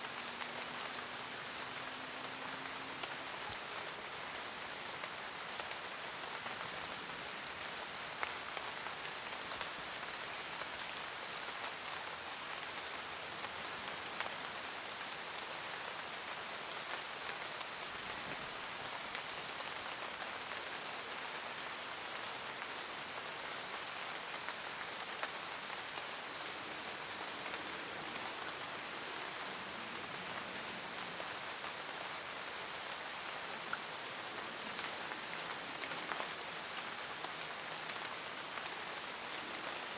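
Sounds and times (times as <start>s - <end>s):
rain pattering in a forest: 0.0s - 39.9s.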